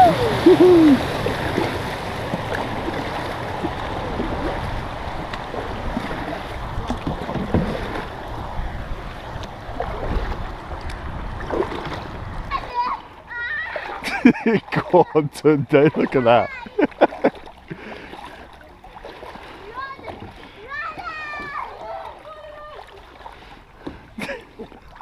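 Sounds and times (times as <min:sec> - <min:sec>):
paddles dipping and splashing: 0:00.0 - 0:25.0
water washing along kayak hull: 0:00.0 - 0:25.0.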